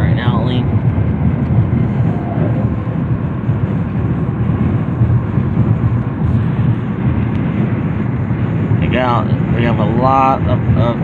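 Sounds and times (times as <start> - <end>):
car road and wind rumble: 0.0 - 11.0.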